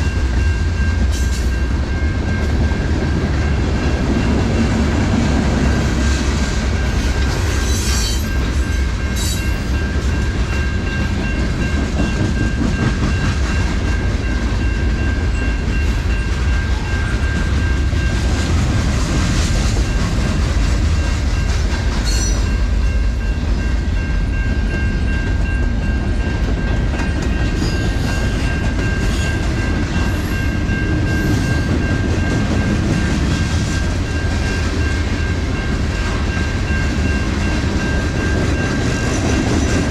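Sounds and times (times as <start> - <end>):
train rumbling past: 0.0 - 39.9
train wheels clattering on rails: 0.0 - 39.9.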